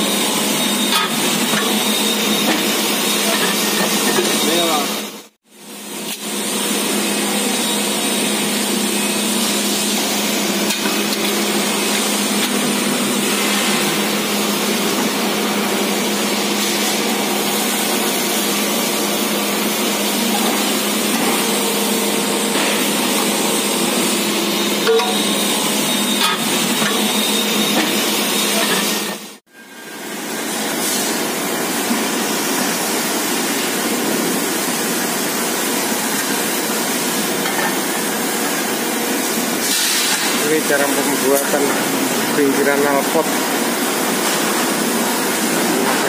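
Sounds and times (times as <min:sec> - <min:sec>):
factory machinery running: 0:00.0 - 0:46.0.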